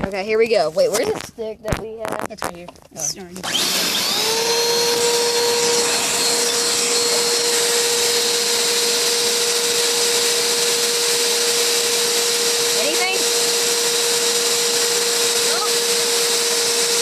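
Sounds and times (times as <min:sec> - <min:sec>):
vacuum cleaner running: 0:03.4 - 0:17.0.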